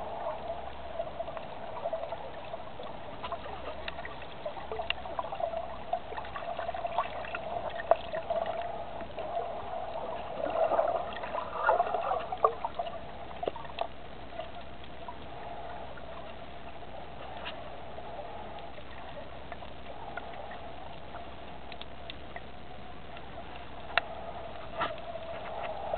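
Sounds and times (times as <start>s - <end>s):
underwater bubbling and gurgling: 0.0s - 25.9s
underwater hum: 0.0s - 25.9s.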